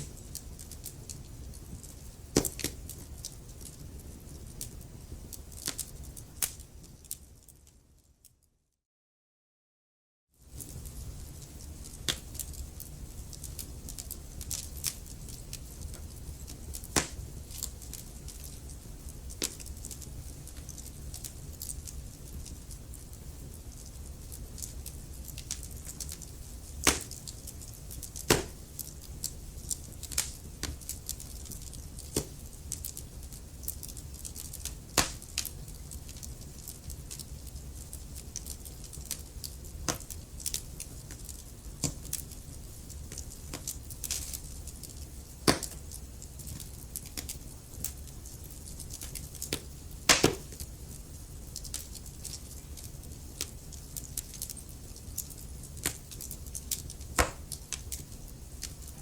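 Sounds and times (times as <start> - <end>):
flames rumbling and hissing: 0.0 - 7.6, 10.4 - 59.0
wood fire crackling: 0.0 - 8.4, 10.4 - 59.0.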